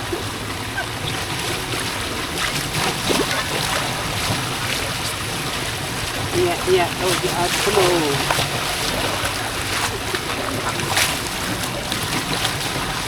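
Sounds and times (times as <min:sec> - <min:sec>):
water rushing into storm drain: 0:00.0 - 0:13.0.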